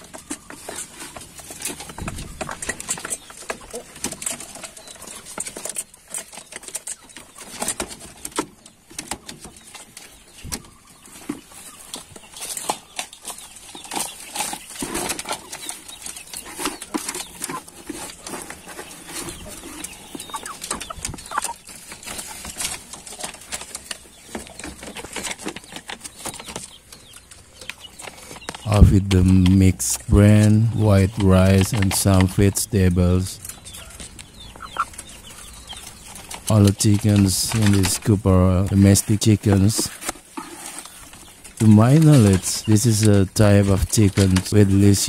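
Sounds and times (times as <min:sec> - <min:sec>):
chickens clucking: 0:00.0 - 0:45.0
chickens pecking and rustling: 0:00.0 - 0:45.0.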